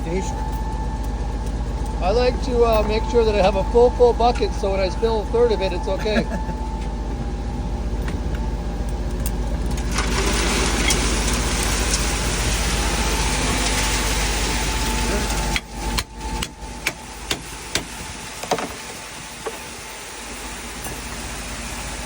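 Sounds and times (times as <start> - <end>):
truck diesel engine running: 0.0 - 22.0.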